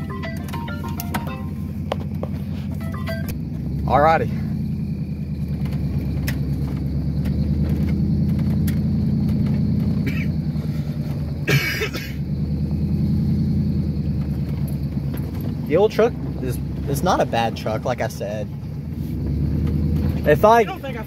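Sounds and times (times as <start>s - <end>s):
truck engine and tyres droning: 0.0s - 21.0s.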